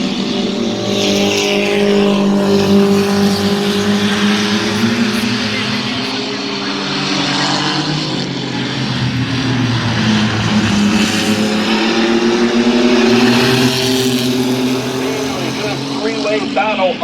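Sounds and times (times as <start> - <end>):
mini truck racing engines: 0.0 - 17.0.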